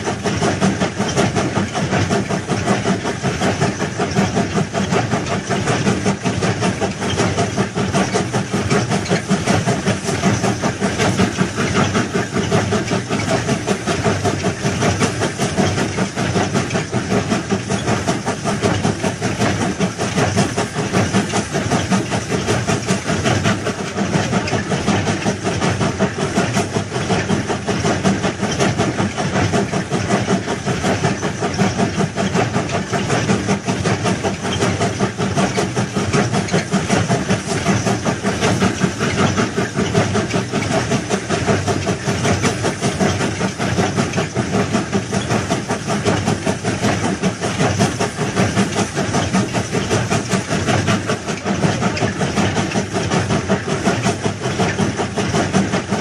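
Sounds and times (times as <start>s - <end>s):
track-laying machine running: 0.0s - 56.0s.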